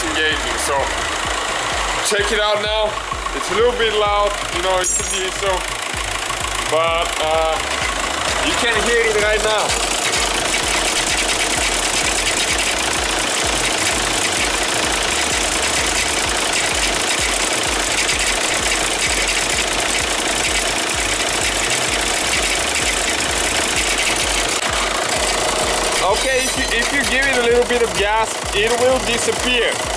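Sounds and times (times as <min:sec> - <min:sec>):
diesel engine idling: 0:00.0 - 0:29.9
rapid rattle from flywheel: 0:00.0 - 0:29.9.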